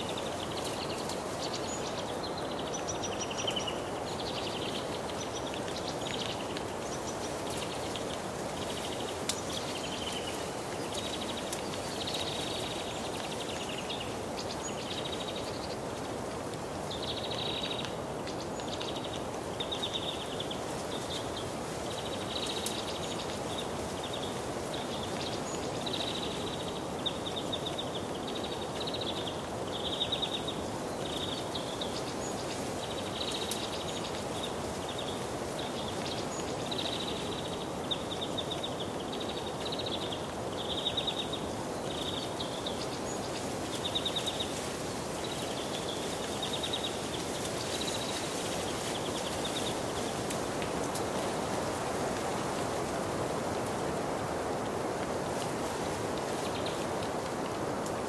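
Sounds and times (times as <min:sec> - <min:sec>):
outdoor background hiss: 0:00.0 - 0:58.0.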